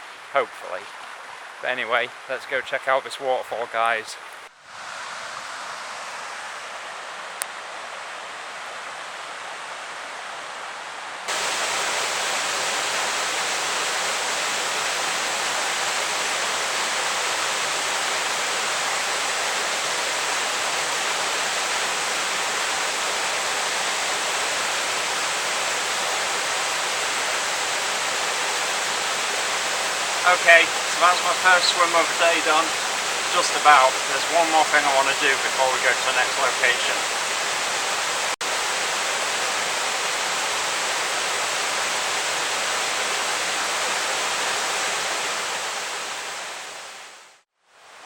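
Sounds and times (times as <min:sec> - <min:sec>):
waterfall rushing: 0:04.6 - 0:48.0.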